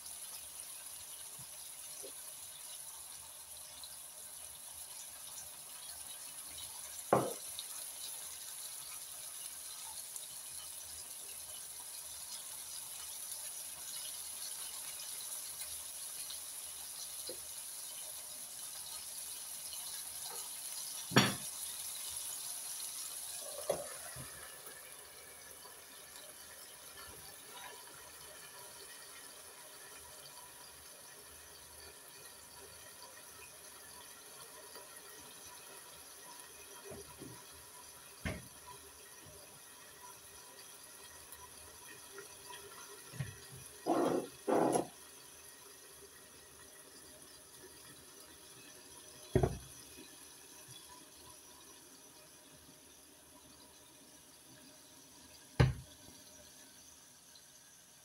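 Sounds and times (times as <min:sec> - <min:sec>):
patties sizzling in frying pan: 0:00.0 - 0:58.0.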